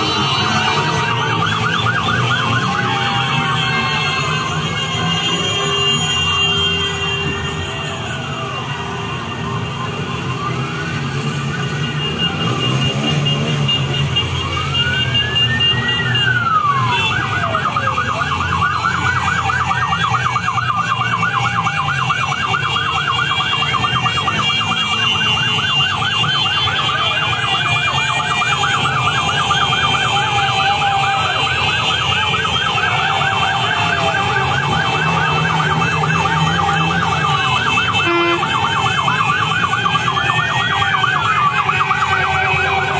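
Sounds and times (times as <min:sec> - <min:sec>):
fast siren yelp: 0:00.0 - 0:42.9
sirens wailing: 0:00.0 - 0:42.9
vehicle engines rumbling: 0:00.0 - 0:42.9.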